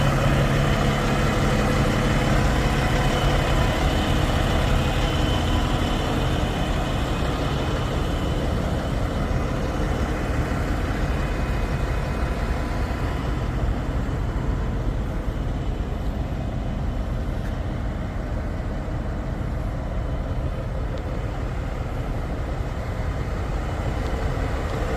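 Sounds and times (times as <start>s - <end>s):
truck diesel engine running: 0.0s - 24.9s.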